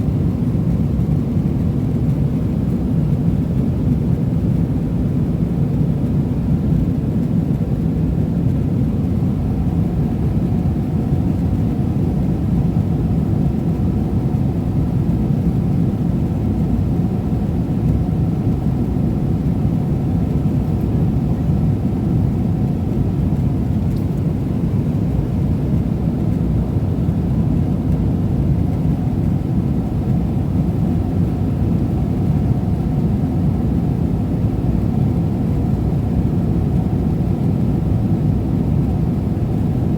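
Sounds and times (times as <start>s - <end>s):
airliner cabin roar: 0.0s - 5.1s, 5.7s - 39.9s.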